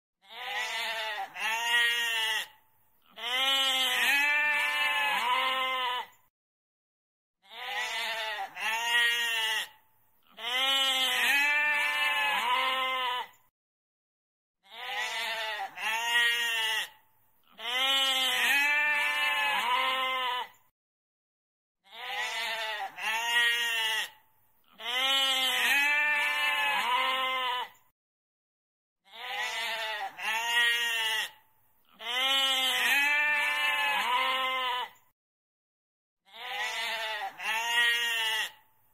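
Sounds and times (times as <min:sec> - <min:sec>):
goat bleating: 0:00.2 - 0:06.2, 0:07.4 - 0:13.4, 0:14.6 - 0:20.6, 0:21.9 - 0:27.8, 0:29.1 - 0:35.0, 0:36.3 - 0:38.6.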